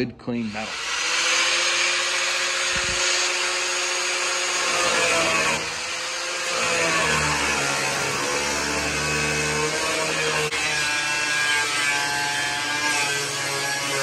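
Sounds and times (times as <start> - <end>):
grinder cutting sheet steel: 0.3 - 14.0
angle grinder whining: 0.4 - 14.0.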